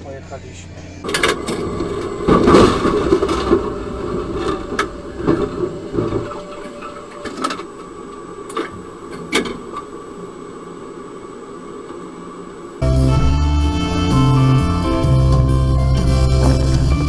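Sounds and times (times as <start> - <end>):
tram running and braking: 0.0 - 17.0.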